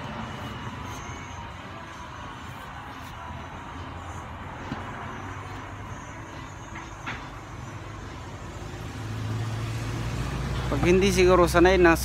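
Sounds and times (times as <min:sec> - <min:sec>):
traffic hum: 0:00.0 - 0:12.0
vehicle engine: 0:00.0 - 0:12.0.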